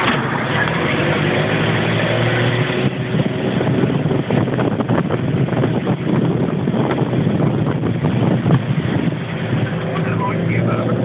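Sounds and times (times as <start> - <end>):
car engine and tyre noise: 0.0 - 11.0
wind buffeting open window: 0.0 - 11.0.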